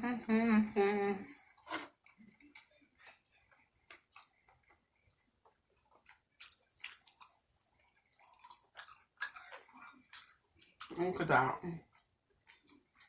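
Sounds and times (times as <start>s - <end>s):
person chewing food: 1.4s - 11.0s, 11.8s - 13.0s.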